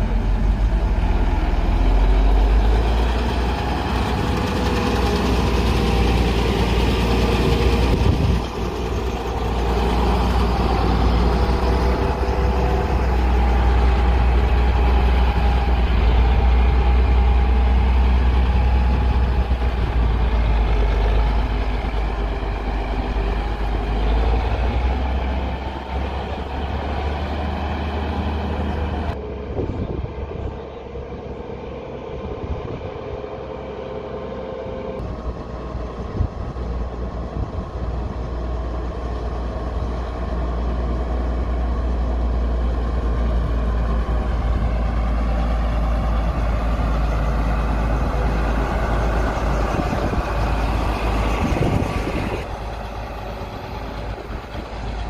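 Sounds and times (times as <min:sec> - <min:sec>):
diesel engine rumbling under load: 0:00.0 - 0:55.0.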